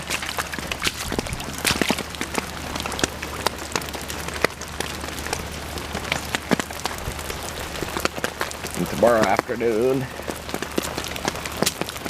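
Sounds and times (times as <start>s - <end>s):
rain falling: 0.0s - 12.0s
water drops dripping close by: 0.0s - 12.0s.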